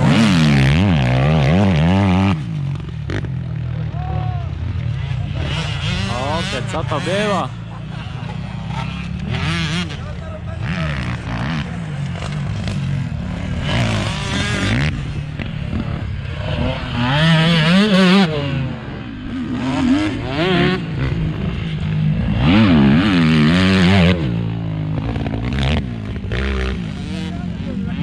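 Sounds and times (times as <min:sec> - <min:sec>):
off-road vehicle engine revving: 0:00.0 - 0:04.0, 0:04.9 - 0:28.0.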